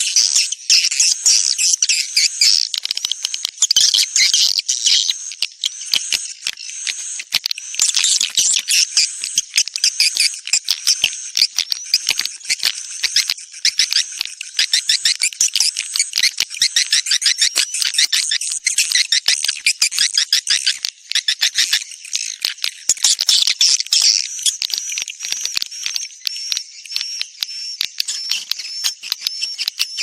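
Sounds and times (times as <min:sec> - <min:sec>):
high-pitched bird twittering: 0:00.0 - 0:30.0.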